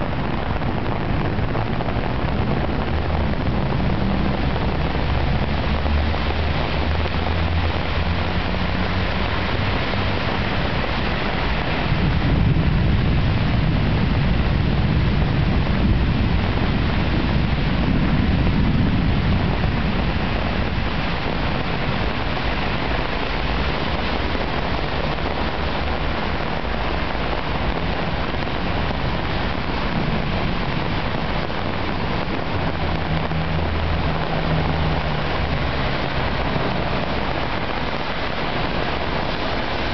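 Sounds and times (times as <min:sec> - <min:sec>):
cars driving through flooded road: 0:00.0 - 0:39.9
heavy rain falling: 0:00.0 - 0:39.9
low engine hum: 0:00.0 - 0:39.9
low rushing noise: 0:00.0 - 0:39.9.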